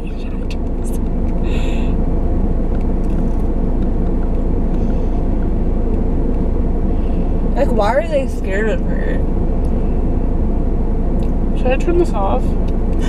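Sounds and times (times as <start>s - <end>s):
car idling: 0.0s - 13.0s.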